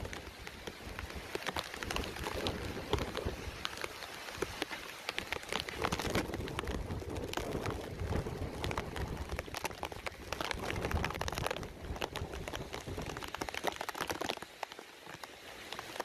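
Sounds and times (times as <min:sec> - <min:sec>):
wind buffeting microphone: 0:00.0 - 0:04.6, 0:05.2 - 0:14.3
heavy rain pouring: 0:00.0 - 0:16.0
raindrops ticking: 0:00.0 - 0:16.0.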